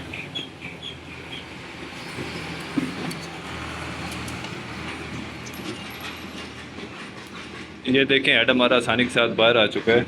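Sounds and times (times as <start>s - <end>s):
traffic rumbling: 0.0s - 10.0s.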